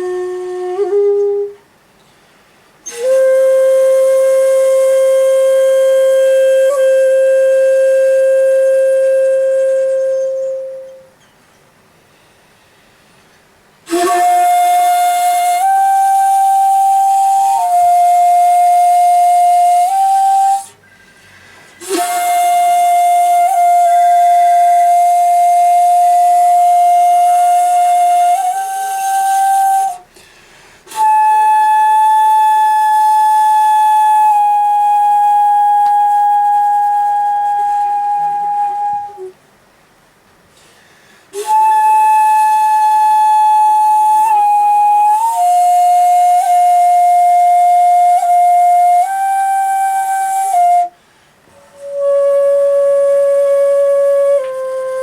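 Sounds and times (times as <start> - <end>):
breathy bamboo flute: 0.0 - 11.4, 12.2 - 39.5, 40.5 - 55.0.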